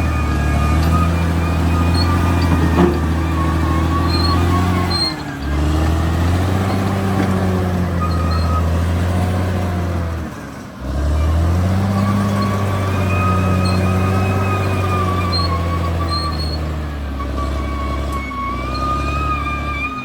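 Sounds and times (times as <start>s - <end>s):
high squeaks: 0.0s - 8.9s, 11.8s - 20.0s
bulldozer diesel engine under load: 0.0s - 20.0s.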